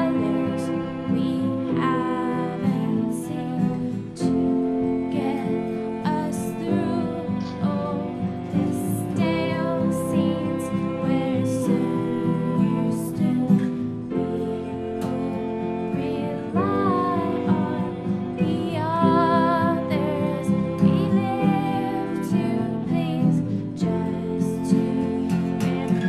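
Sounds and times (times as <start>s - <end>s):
acoustic guitar: 0.0s - 26.0s
sustained instruments: 0.0s - 26.0s
woman singing: 0.0s - 26.0s.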